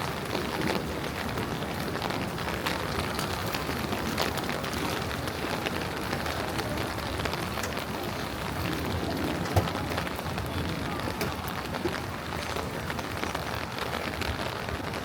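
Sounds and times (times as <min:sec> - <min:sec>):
rain on hard street surfaces: 0:00.0 - 0:15.0.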